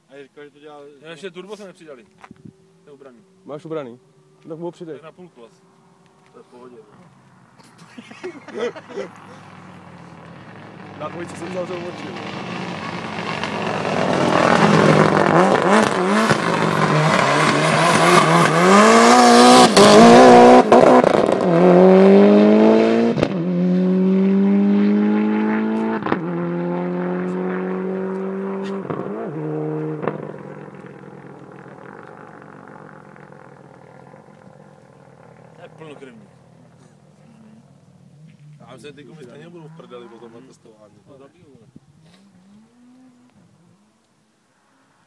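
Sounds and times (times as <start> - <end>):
car engine revving: 1.8 - 44.0.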